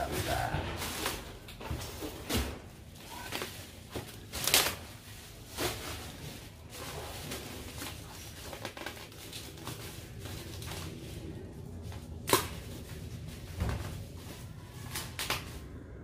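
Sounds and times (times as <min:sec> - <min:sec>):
bubble wrap and plastic crackling: 0:00.0 - 0:16.0.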